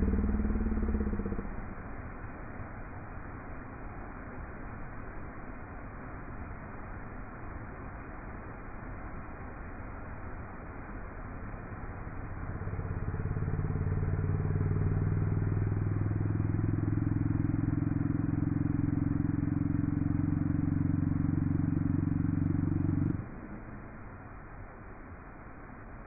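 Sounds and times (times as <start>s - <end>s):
vehicle engine running steadily: 0.0s - 26.0s.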